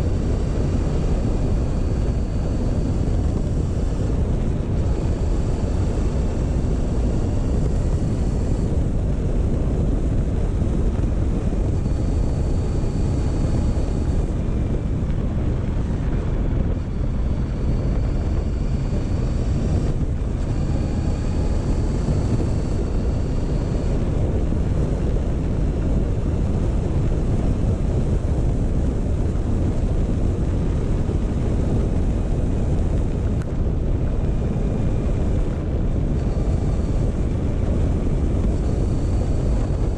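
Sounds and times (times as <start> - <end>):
faint high whine: 0.0 - 39.9
motorcycle engine: 0.0 - 39.9
wind rush on microphone: 0.0 - 39.9.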